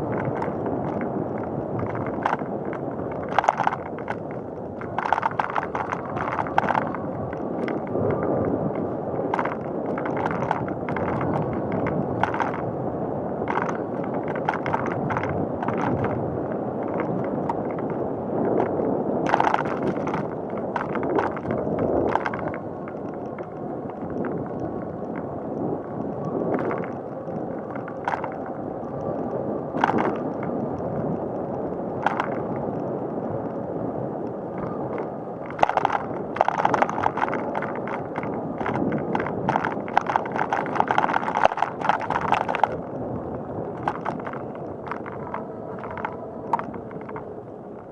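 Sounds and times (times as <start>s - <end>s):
bicycle clicks and rattles: 0.0s - 47.9s
bicycle tyre and wind noise: 0.0s - 47.9s.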